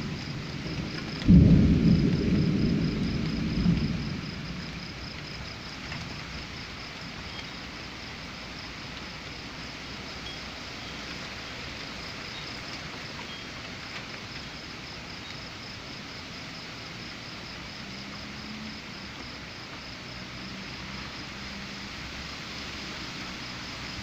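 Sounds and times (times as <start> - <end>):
faint high insect chirring: 0.0 - 24.0
storm rain: 0.0 - 24.0
wind: 0.0 - 24.0.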